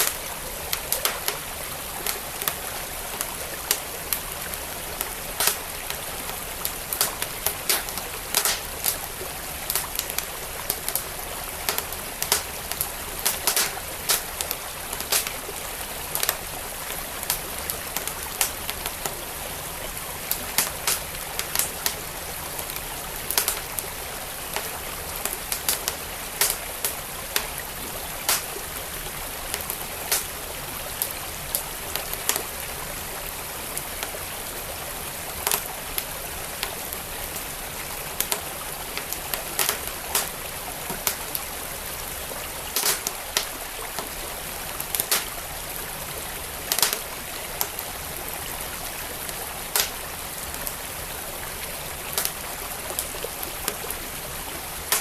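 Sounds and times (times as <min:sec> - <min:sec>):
wood fire crackling and popping: 0:00.0 - 0:34.7, 0:35.3 - 0:48.1, 0:48.7 - 0:50.6, 0:52.0 - 0:54.0, 0:54.7 - 0:55.0
flowing stream: 0:00.0 - 0:55.0.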